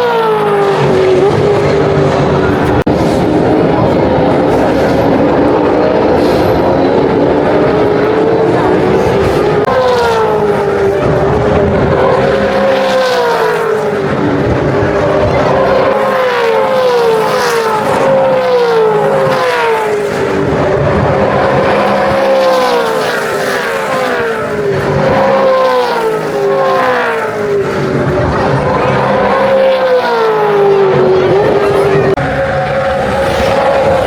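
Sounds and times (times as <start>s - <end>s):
race cars passing at speed: 0.0s - 34.0s.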